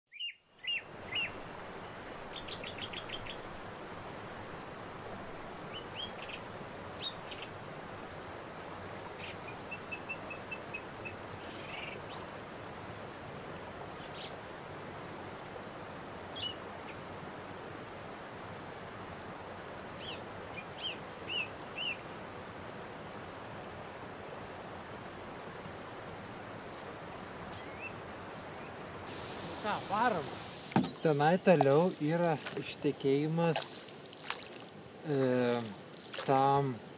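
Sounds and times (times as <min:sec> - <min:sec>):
songbirds chirping and trilling: 0:00.1 - 0:07.9, 0:09.0 - 0:12.8, 0:13.9 - 0:15.3, 0:15.9 - 0:18.8, 0:19.8 - 0:25.4, 0:26.6 - 0:36.9
outdoor background hiss: 0:00.1 - 0:36.9.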